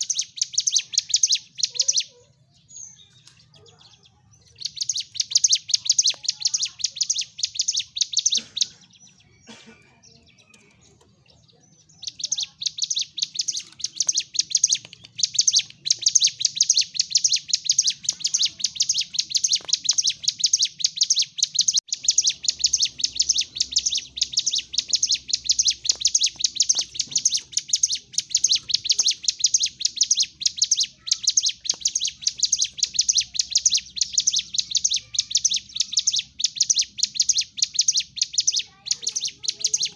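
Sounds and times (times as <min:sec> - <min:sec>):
bird singing rapid high chatter: 0:00.0 - 0:39.9.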